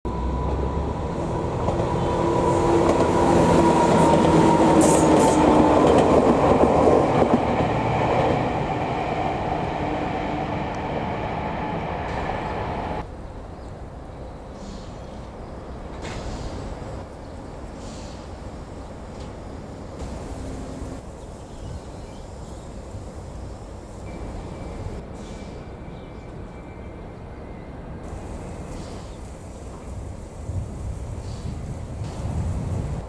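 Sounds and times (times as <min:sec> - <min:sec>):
train running past: 0:00.1 - 0:13.3, 0:13.9 - 0:33.0.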